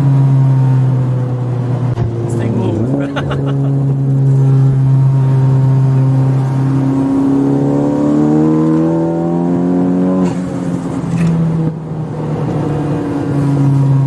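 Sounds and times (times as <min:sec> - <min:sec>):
car engine revving under full throttle: 0:00.0 - 0:14.0.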